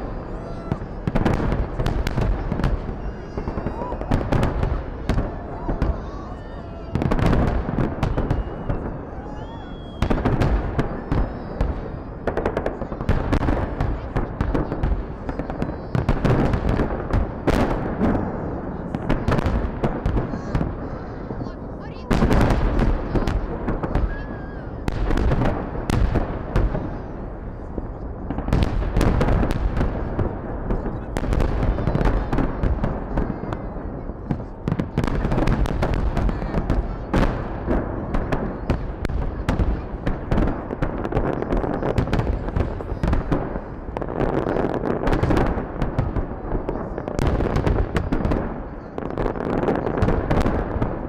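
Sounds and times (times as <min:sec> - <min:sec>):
fireworks bangs: 0:00.0 - 0:51.0.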